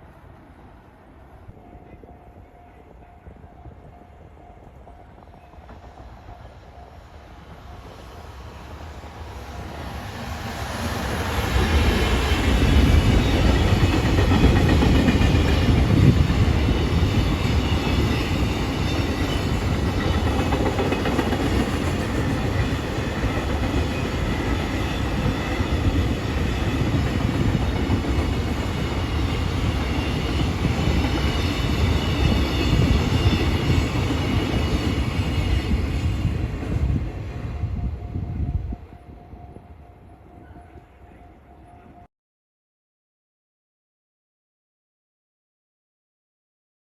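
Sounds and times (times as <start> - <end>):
train passing: 0.0 - 42.1.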